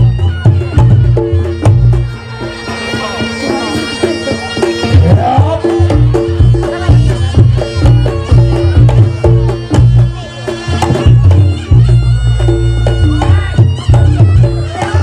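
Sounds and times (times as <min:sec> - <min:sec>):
drums and percussion beat: 0:00.0 - 0:15.0
shawm melody: 0:00.0 - 0:15.0.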